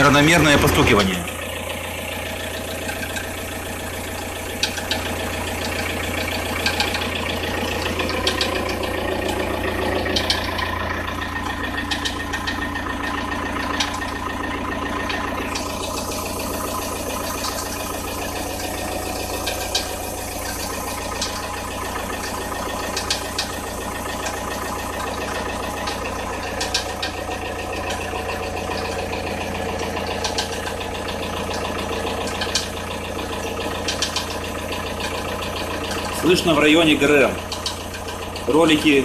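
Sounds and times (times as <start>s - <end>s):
diesel engine idling: 0.0s - 39.0s
sharp engine knocks: 0.0s - 39.0s.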